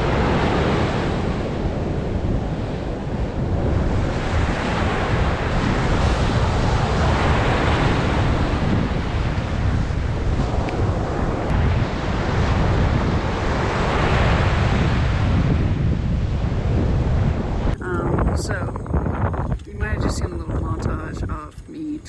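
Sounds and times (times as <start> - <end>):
ocean surf breaking: 0.0 - 21.4
wind buffeting microphone: 0.0 - 22.0.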